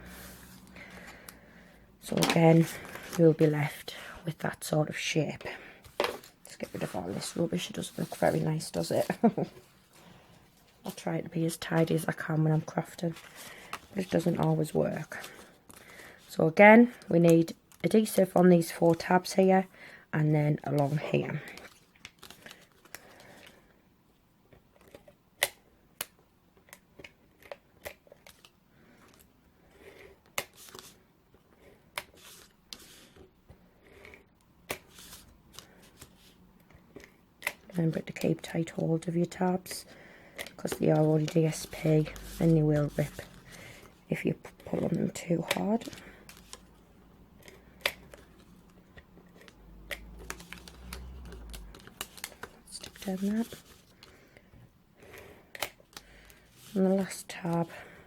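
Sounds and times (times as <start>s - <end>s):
card stock clicks and rustles: 5.8s - 18.2s, 20.8s - 23.7s, 24.5s - 58.0s.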